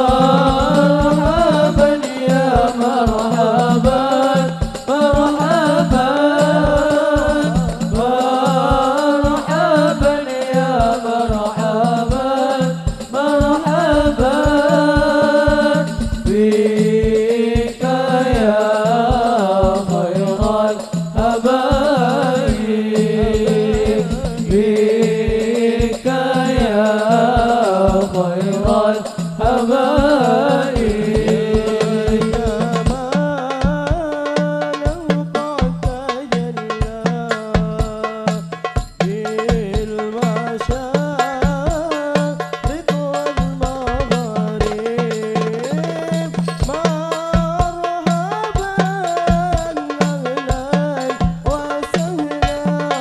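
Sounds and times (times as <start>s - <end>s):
frame drums beating quick rhythm: 0.0s - 53.0s.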